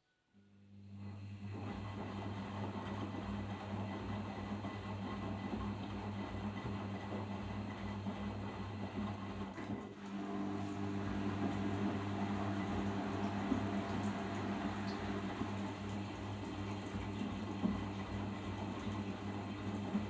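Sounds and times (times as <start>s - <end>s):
washing machine humming: 1.0s - 20.0s.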